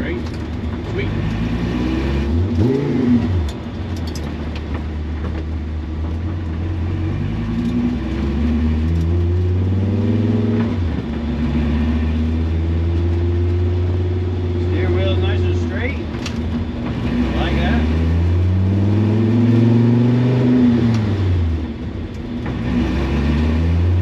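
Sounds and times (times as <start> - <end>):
race car engine: 0.0 - 24.0
road noise: 0.0 - 24.0.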